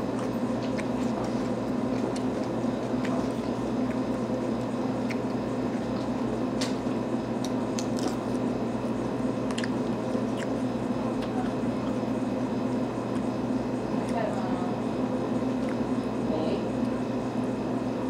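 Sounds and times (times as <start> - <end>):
wet chewing and sucking on bone: 0.0 - 14.3, 15.4 - 16.0
low room hum: 0.0 - 18.0.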